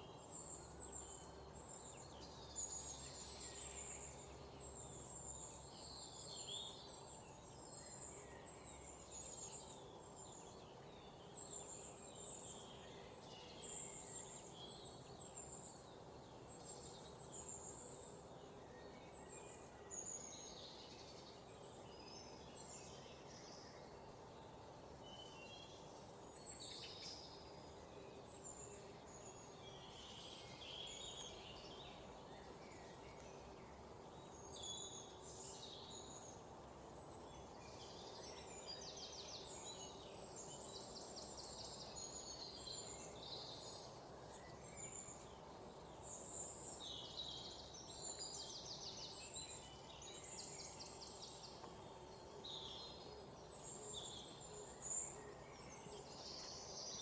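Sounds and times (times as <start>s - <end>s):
birds chirping faintly: 0.0s - 57.0s
low outdoor hiss: 0.0s - 57.0s.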